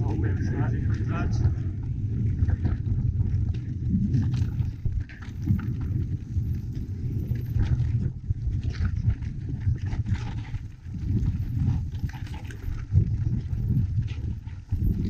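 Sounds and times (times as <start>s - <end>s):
low rumble: 0.0s - 15.0s
mountain bike rattling over rocks: 1.9s - 15.0s.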